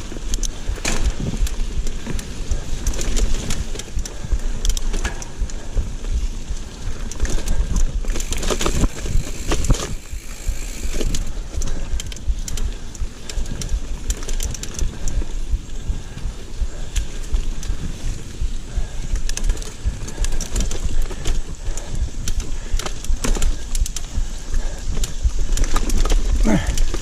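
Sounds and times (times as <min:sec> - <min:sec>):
bike rattling and knocking: 0:00.0 - 0:27.0
bike tyres rumbling on dirt: 0:00.0 - 0:27.0.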